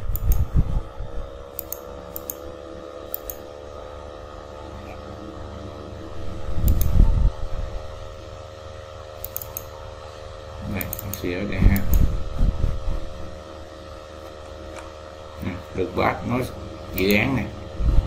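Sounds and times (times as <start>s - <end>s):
fan humming: 0.0s - 18.0s.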